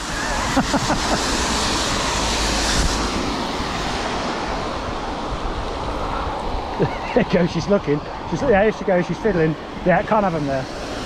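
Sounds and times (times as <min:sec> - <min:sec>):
bicycle tyres hissing on wet road: 0:00.0 - 0:11.0
wind noise on camera: 0:00.0 - 0:11.0.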